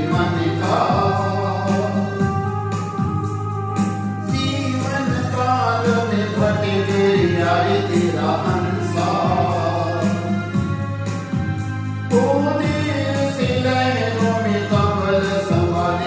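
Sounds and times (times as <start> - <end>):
instrumental accompaniment with drone: 0.0 - 16.0
person singing: 0.0 - 16.0
regular beat: 0.0 - 16.0.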